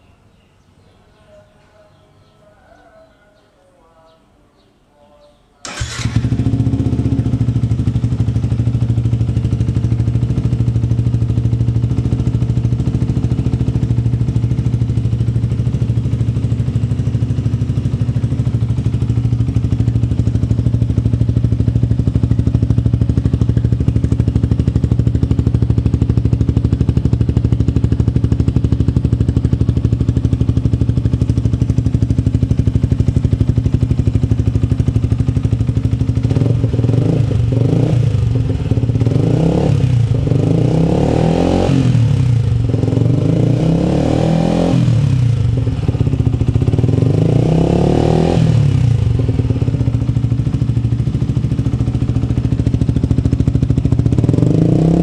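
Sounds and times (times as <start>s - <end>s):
motorcycle engine idling: 5.6s - 55.0s.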